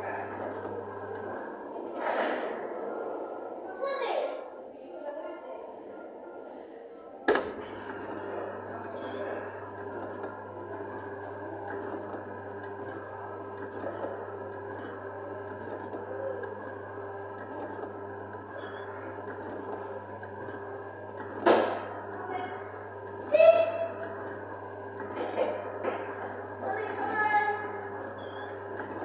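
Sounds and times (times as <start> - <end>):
mechanical rattling and ticks: 0.0 - 1.7, 7.3 - 29.0
kiddie ride humming: 0.0 - 4.7, 7.2 - 29.0.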